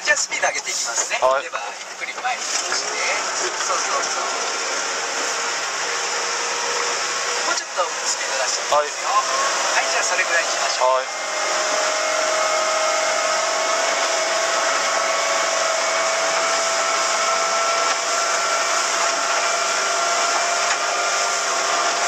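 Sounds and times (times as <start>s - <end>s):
motorboat engine whine: 0.0s - 22.0s
water rushing: 0.0s - 22.0s.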